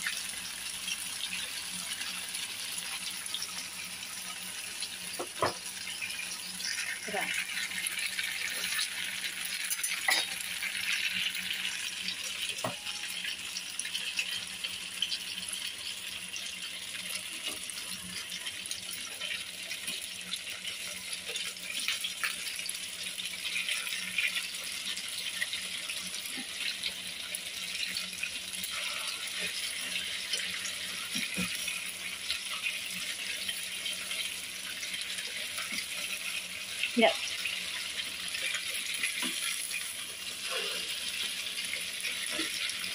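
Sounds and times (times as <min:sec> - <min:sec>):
patties sizzling in oil: 0:00.0 - 0:42.9.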